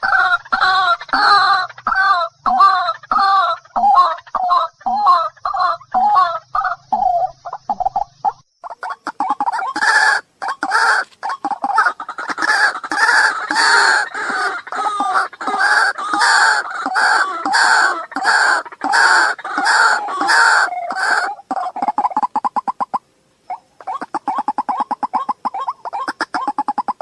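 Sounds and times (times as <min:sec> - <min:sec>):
waterhen calling: 0:00.0 - 0:27.0.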